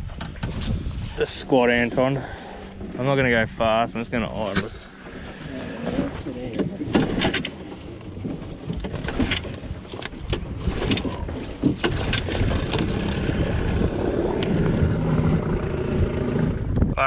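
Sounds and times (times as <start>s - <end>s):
outboard motor idling: 0.0s - 17.0s.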